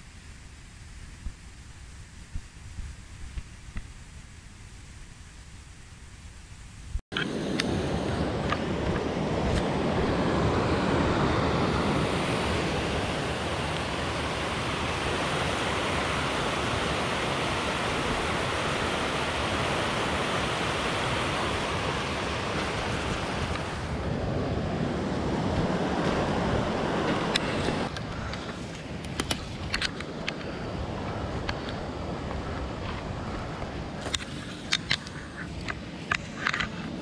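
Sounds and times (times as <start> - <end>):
stream rushing over stones: 7.2 - 37.0.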